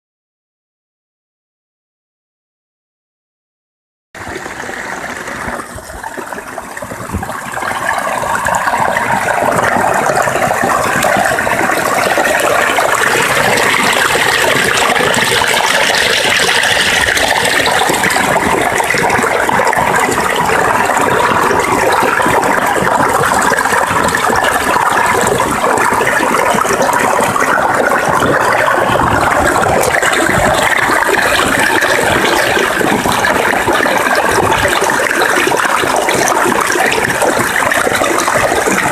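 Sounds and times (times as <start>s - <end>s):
stream babbling over rocks: 4.2s - 38.9s.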